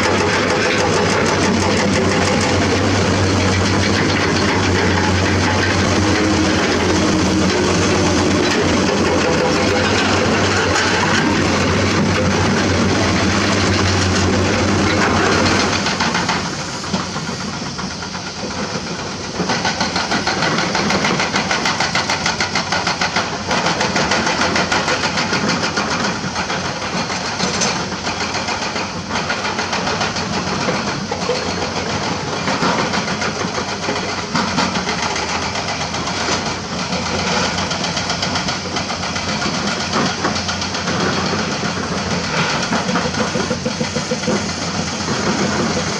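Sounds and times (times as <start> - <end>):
excavator diesel engines under load: 0.0 - 45.9.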